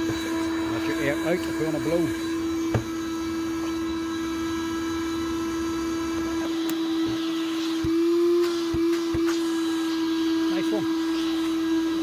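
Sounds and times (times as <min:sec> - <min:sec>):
vacuum motor whine: 0:00.0 - 0:12.0.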